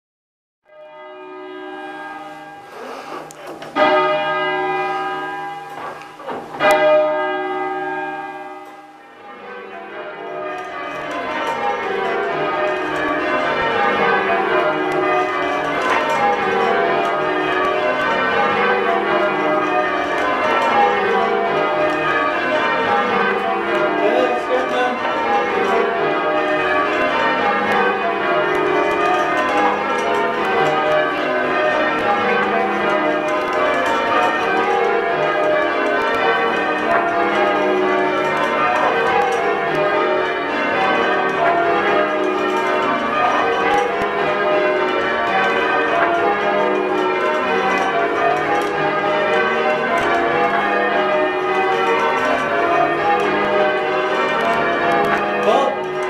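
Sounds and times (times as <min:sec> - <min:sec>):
church bell strokes: 0:00.7 - 0:56.0
church bells change ringing: 0:00.7 - 0:56.0.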